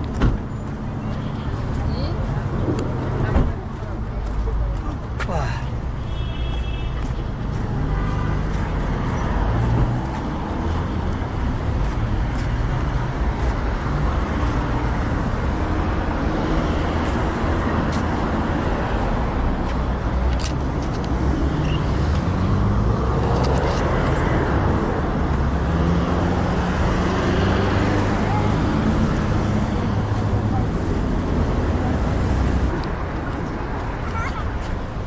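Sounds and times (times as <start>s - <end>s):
city road traffic: 0.0s - 35.0s.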